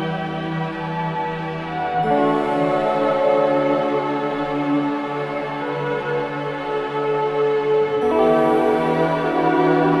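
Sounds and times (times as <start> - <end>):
ambient relaxation music: 0.0 - 10.0.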